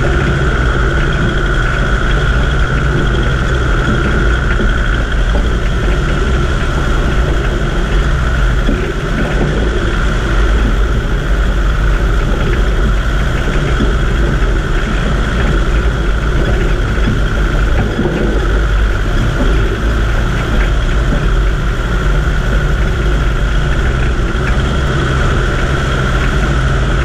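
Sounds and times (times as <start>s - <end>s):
constant whine: 0.0s - 27.0s
deep engine drone: 0.0s - 27.0s.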